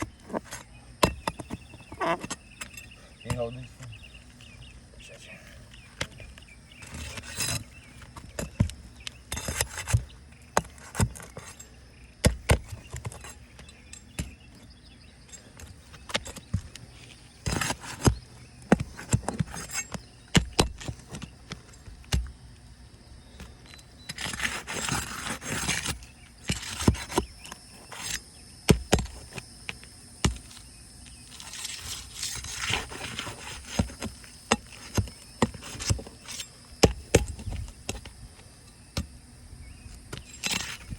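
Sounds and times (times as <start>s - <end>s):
scraping rasps: 0.0s - 22.4s, 23.2s - 39.1s, 39.8s - 40.9s.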